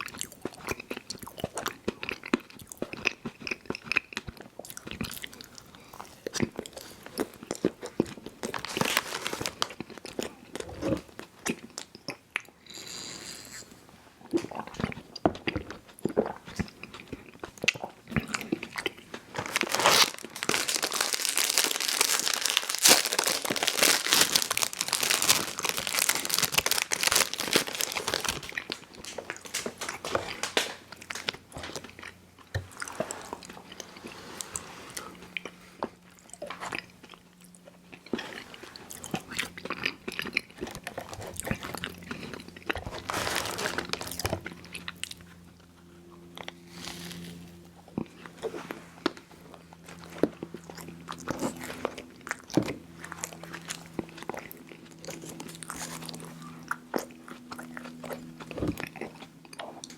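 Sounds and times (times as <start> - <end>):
chewing candy close up: 0.0 - 59.9.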